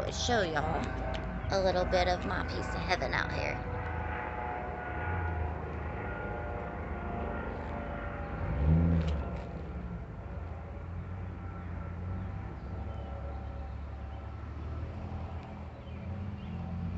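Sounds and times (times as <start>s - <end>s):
engine drone: 0.0s - 16.9s.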